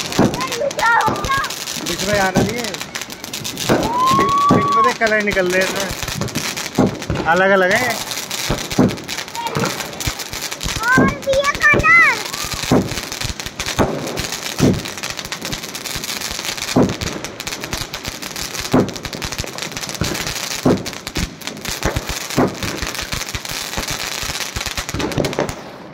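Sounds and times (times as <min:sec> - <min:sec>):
fireworks bangs: 0:00.0 - 0:25.9
fireworks crackling: 0:00.0 - 0:25.9.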